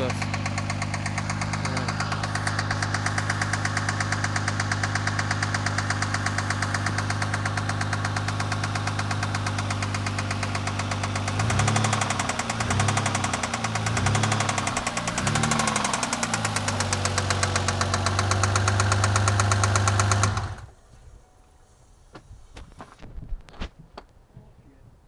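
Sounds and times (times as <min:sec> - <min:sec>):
rapid engine knock: 0:00.0 - 0:20.7
car engine idling and revving: 0:00.0 - 0:20.8.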